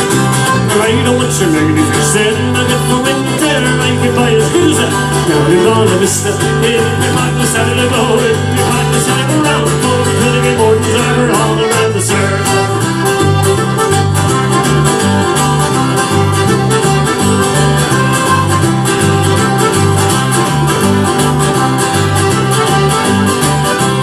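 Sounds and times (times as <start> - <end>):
bass line: 0.0 - 24.0
country music with guitar: 0.0 - 24.0.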